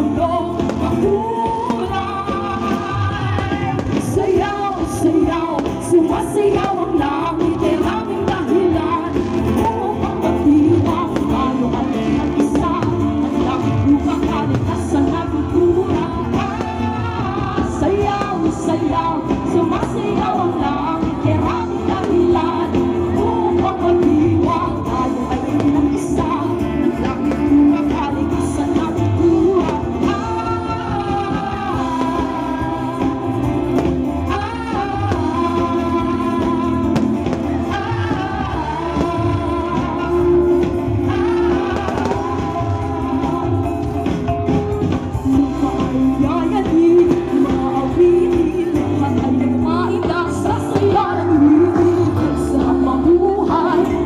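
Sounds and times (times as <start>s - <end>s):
backing band: 0.0s - 54.0s
person singing: 0.0s - 54.0s.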